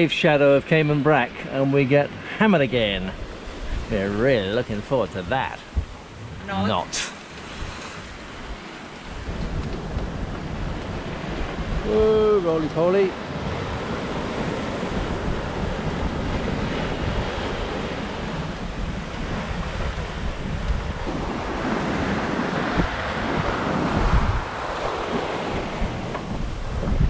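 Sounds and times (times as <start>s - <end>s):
rush of the sea: 0.0s - 27.0s
wind buffeting microphone: 0.0s - 27.0s.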